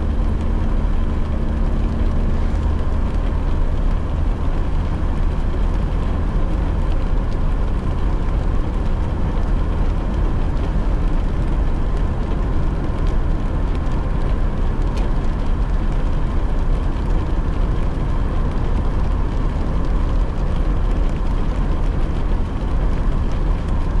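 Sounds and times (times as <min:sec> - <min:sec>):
raindrops ticking on car: 0:00.0 - 0:24.0
road and tyre noise: 0:00.0 - 0:24.0.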